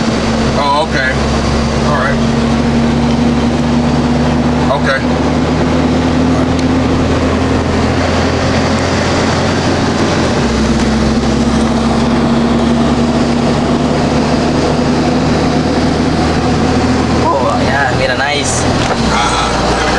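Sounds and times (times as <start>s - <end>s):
low engine drone: 0.0s - 19.9s
road noise inside vehicle: 0.0s - 19.9s.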